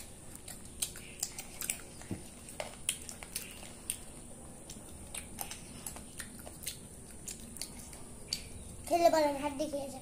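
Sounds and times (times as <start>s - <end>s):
chewing mouth sounds: 0.0s - 8.9s
wet smacks and clicks: 0.0s - 8.9s.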